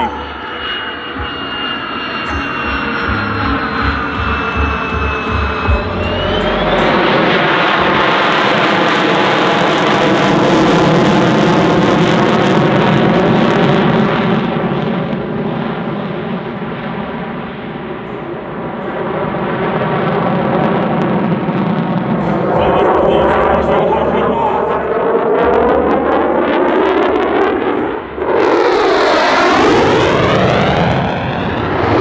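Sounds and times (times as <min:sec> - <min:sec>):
jet engine roaring overhead: 0:00.0 - 0:32.0.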